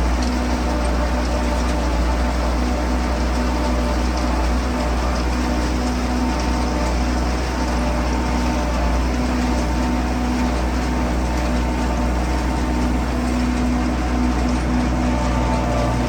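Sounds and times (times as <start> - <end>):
farm machine engine droning: 0.0 - 16.0.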